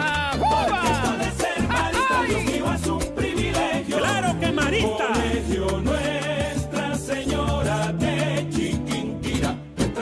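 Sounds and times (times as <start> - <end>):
salsa music with bass line: 0.0 - 10.0.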